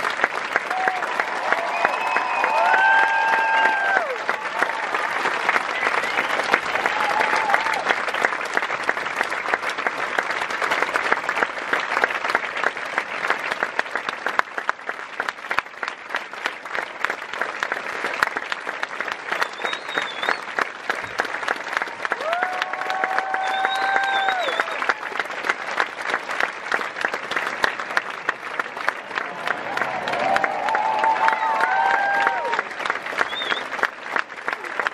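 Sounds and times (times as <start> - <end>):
audience applauding: 0.0 - 34.9.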